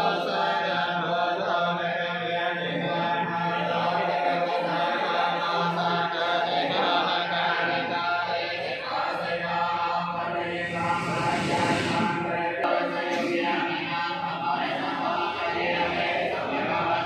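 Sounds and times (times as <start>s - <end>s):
monks chanting together: 0.0s - 17.0s.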